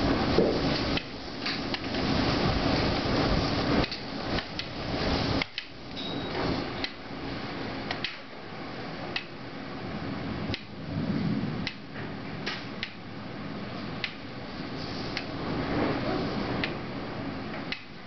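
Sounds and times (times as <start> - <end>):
rolling thunder rumble: 0.0 - 7.8, 9.8 - 17.4
steady rain-like hiss: 0.0 - 18.0.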